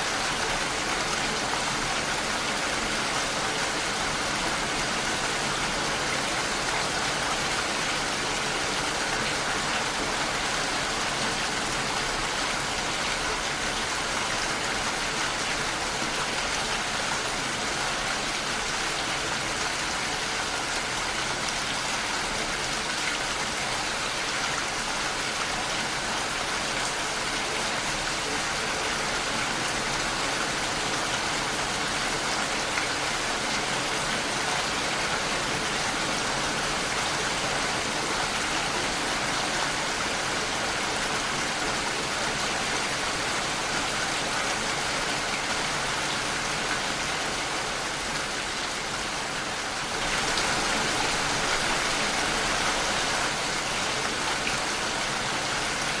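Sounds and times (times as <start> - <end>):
rain on a window pane: 0.0 - 56.0.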